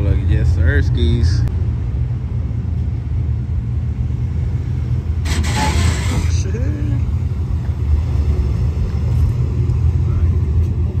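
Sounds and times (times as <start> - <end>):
pickup engine rumbling: 0.0 - 11.0.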